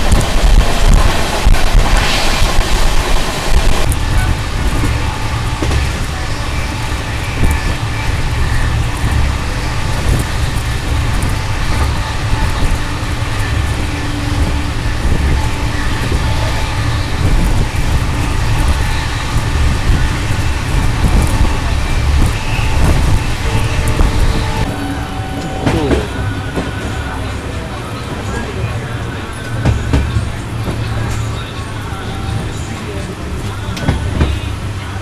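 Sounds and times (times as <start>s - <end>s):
train rumbling along track: 0.0s - 35.0s.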